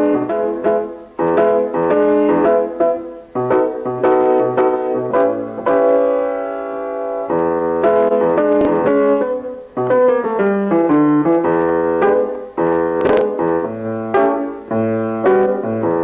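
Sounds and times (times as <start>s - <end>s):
keyboard music with held chords: 0.0s - 16.0s.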